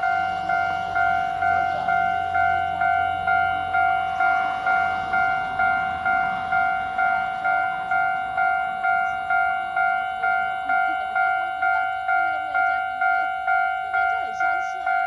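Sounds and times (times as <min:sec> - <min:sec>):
repeating bell-like tone: 0:00.0 - 0:15.0.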